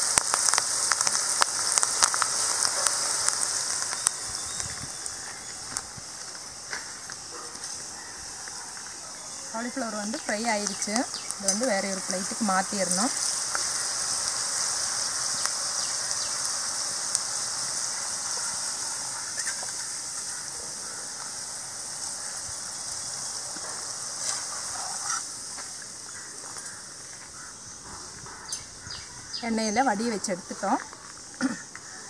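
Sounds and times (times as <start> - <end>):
deep-frying sizzle: 0.0 - 32.0.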